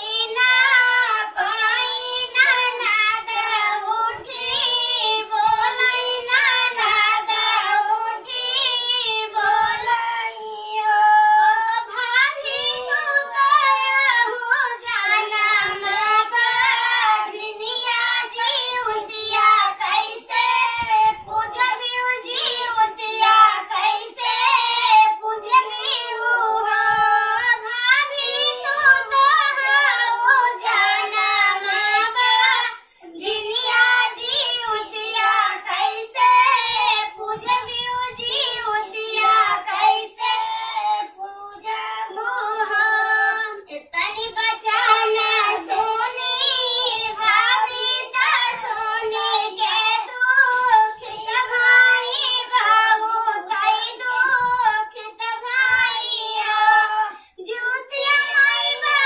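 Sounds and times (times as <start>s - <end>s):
high voice singing unaccompanied: 0.0s - 59.0s.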